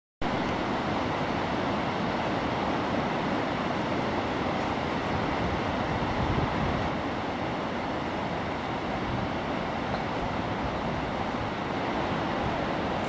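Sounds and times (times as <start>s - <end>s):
waterfall roaring: 0.2s - 13.0s.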